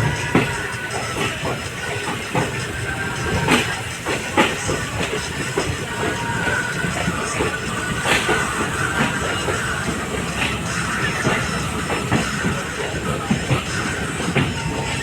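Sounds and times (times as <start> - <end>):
train rushing hiss: 0.0 - 15.0
train wheels clacking: 0.0 - 15.0.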